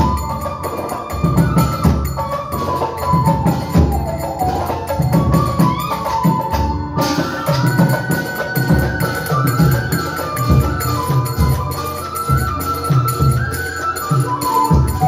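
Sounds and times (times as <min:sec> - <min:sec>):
flute melody: 0:00.0 - 0:15.0
folk band music: 0:00.0 - 0:15.0.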